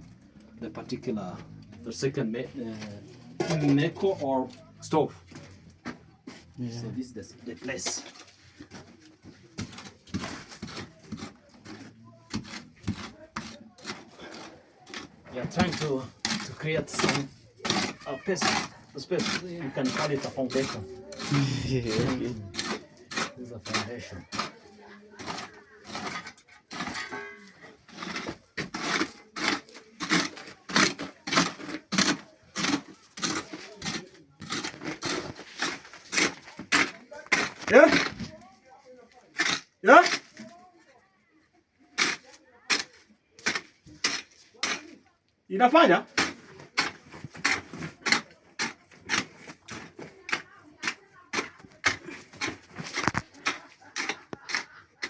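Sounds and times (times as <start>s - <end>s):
hand tool striking and scraping ground: 2.7s - 4.6s, 7.2s - 40.6s, 41.9s - 45.0s, 45.6s - 55.0s.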